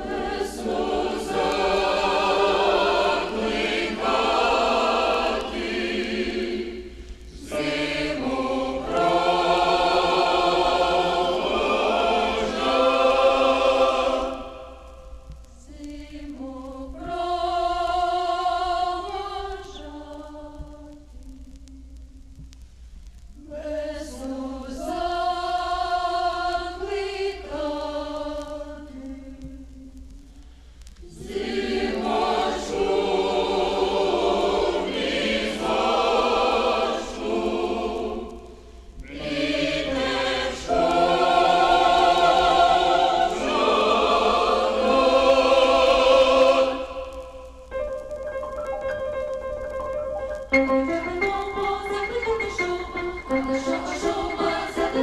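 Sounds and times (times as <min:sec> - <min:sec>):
choir singing: 0:00.0 - 0:21.2, 0:23.4 - 0:29.8, 0:31.0 - 0:47.8, 0:50.5 - 0:55.0.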